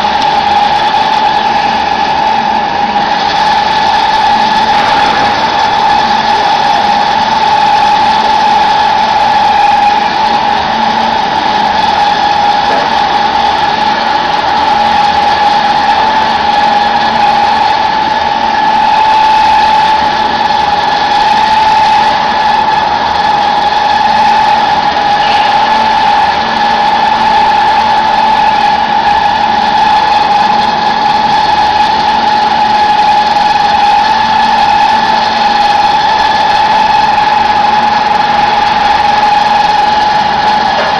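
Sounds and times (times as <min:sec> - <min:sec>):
pellet press machine whining: 0:00.0 - 0:40.9.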